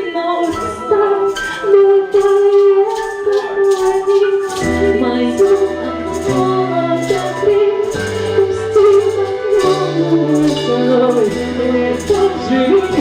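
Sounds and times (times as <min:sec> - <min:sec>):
shaker rhythm: 0:00.0 - 0:13.0.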